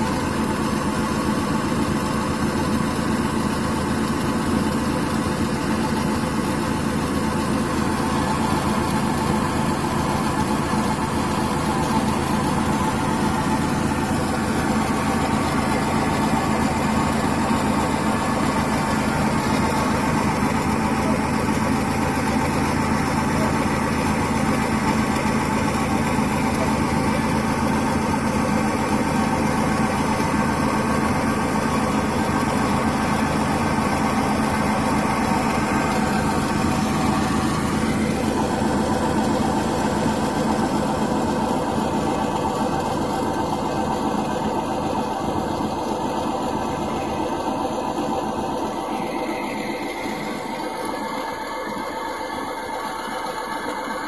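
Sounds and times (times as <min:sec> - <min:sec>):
engine noise: 0:00.0 - 0:54.0
wheel bearing humming: 0:00.0 - 0:54.0
road noise: 0:02.6 - 0:51.5.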